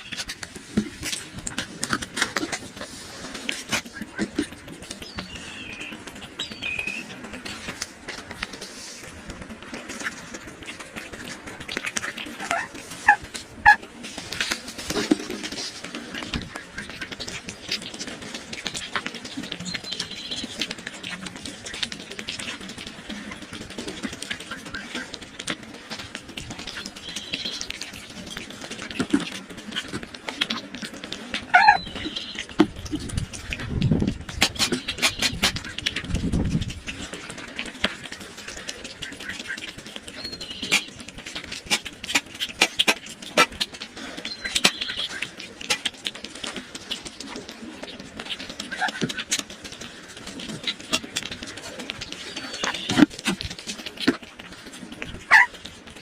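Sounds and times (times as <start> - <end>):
cat chewing food: 0.0 - 56.0.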